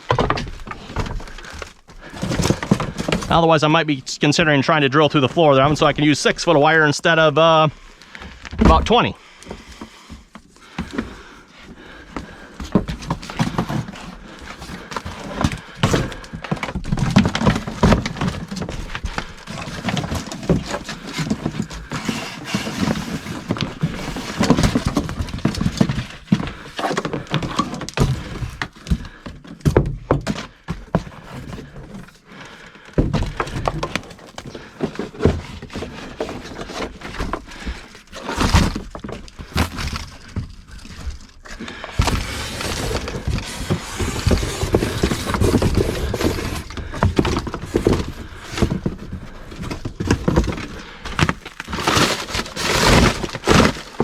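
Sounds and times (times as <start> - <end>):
cable knocking and rustling: 0.0 - 3.5, 8.1 - 54.0.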